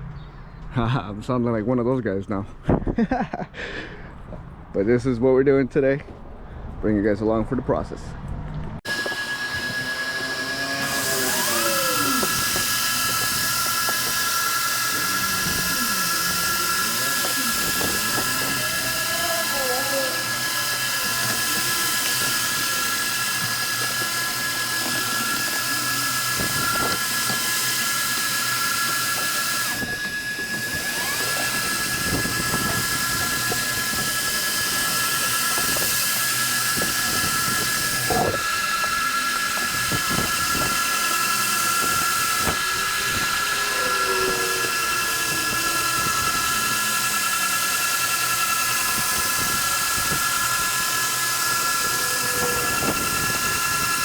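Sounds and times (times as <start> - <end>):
electric sander on wood: 8.8 - 54.0.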